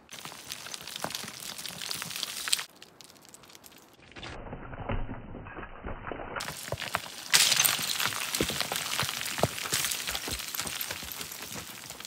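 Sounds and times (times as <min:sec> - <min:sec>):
ice and frozen snow cracking: 0:00.0 - 0:12.0.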